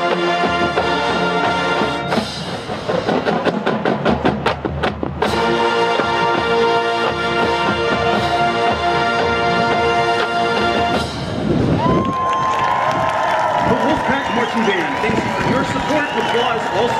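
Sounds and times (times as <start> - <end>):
drumline beating: 0.0 - 16.9.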